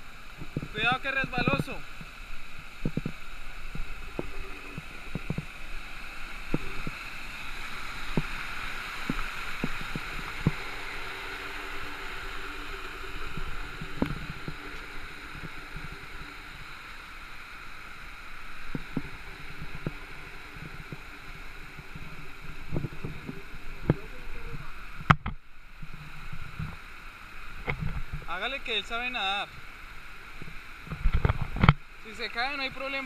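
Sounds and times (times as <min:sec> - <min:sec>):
water rushing over rocks: 0:00.0 - 0:33.0.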